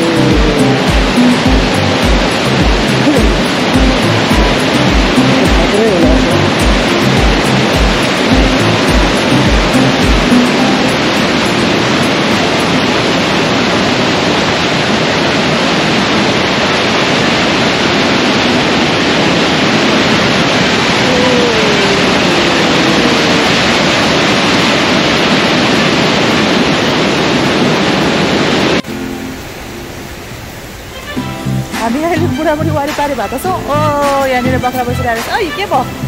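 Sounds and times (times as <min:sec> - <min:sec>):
mountain stream rushing: 0:00.0 - 0:36.0.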